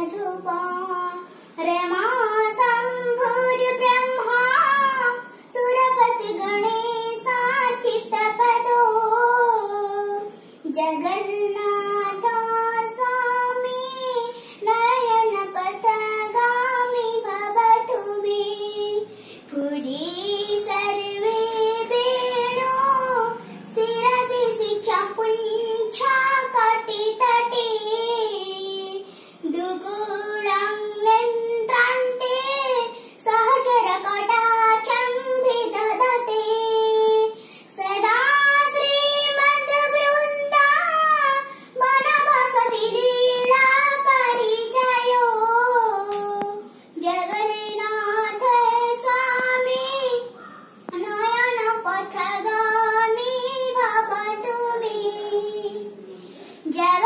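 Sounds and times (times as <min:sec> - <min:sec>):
girl singing unaccompanied: 0:00.0 - 0:57.0.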